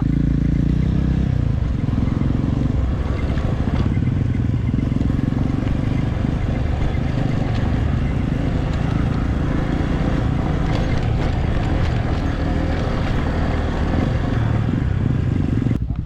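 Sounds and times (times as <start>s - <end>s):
vehicle engine running steadily: 0.0s - 16.0s.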